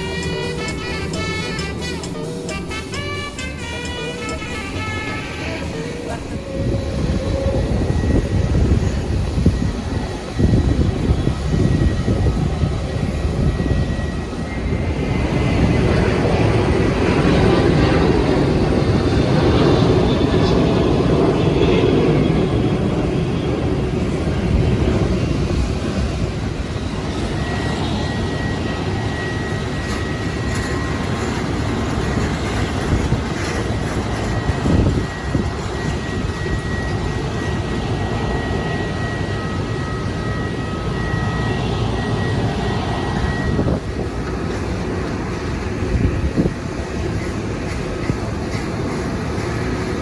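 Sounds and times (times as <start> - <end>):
thin high whine: 0.0 - 23.9, 24.8 - 50.0
jet engines rumbling: 0.0 - 50.0.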